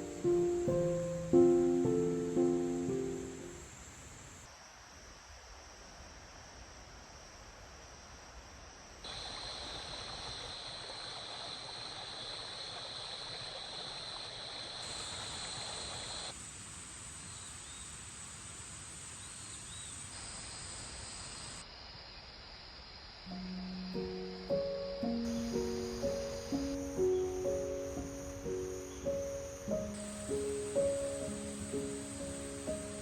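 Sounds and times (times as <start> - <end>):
high insect trill: 0.0 - 4.5, 9.1 - 33.0
steady rushing hiss: 0.0 - 4.6, 6.7 - 33.0.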